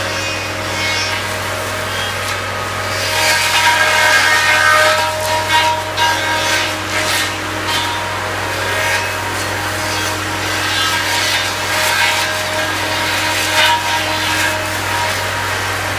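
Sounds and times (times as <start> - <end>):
brush cutter rasping through wood: 0.0 - 15.9
machine drone: 0.0 - 15.9.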